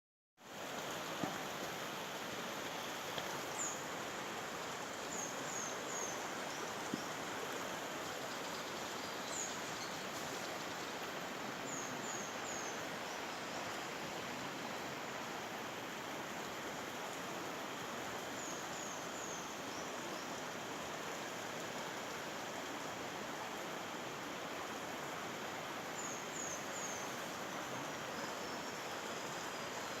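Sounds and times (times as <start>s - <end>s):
water rushing: 0.4s - 30.0s.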